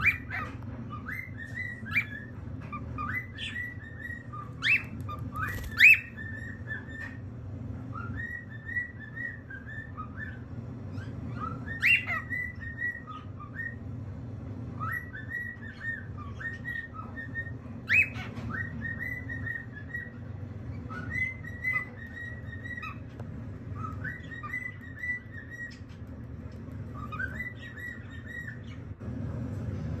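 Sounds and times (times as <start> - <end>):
cockatiel chirping and whistling: 0.0 - 7.2, 7.9 - 13.8, 14.8 - 20.2, 20.8 - 23.1, 23.7 - 26.0, 26.9 - 28.8
steady low hum: 0.0 - 17.9, 18.6 - 30.0.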